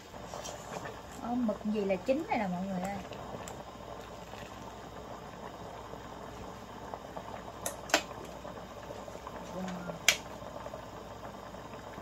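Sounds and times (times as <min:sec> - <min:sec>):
broth bubbling: 0:00.0 - 0:12.0.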